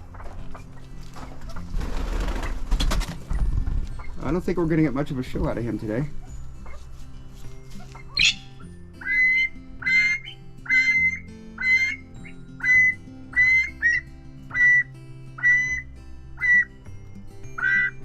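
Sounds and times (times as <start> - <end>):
pheasant calling: 0.0 - 4.4, 5.6 - 7.0, 7.6 - 16.7, 17.5 - 18.0
background music: 0.0 - 18.0.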